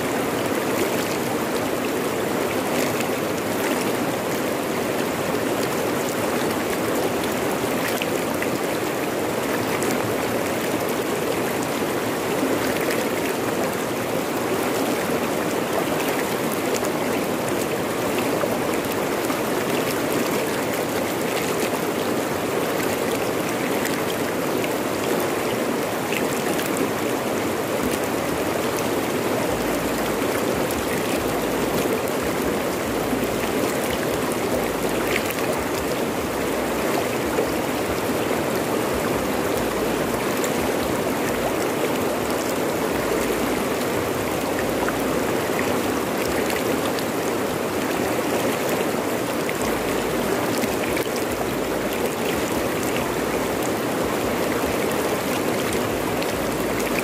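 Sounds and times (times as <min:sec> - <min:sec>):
river rushing over rocks: 0:00.0 - 0:57.0
small water splashes: 0:00.0 - 0:57.0.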